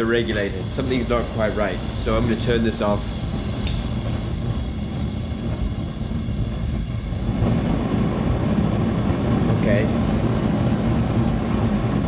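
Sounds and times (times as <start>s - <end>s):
furnace burner roaring: 0.0s - 12.0s.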